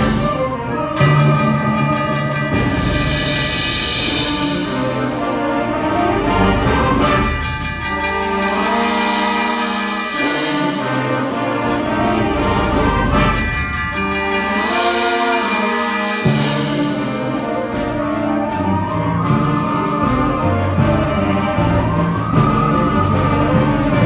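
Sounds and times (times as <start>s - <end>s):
concert band playing: 0.0s - 24.0s
percussion crashes: 1.0s - 24.0s.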